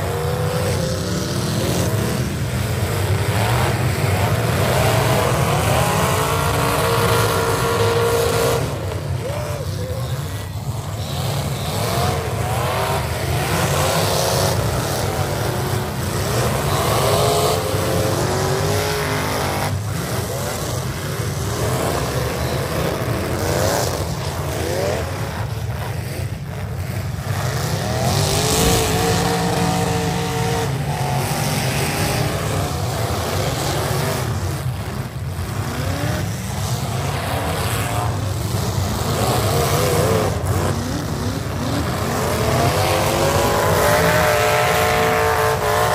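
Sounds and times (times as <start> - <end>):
car engines revving hard: 0.0 - 45.9.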